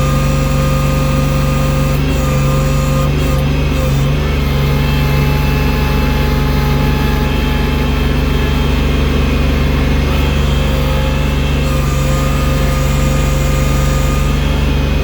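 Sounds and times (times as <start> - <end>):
snow-clearing machine engine running: 0.0 - 15.0.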